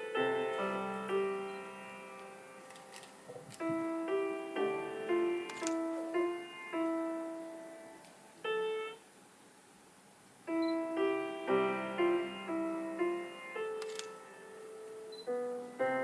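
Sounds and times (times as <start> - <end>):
slow piano notes: 0.0 - 9.2, 10.4 - 16.0.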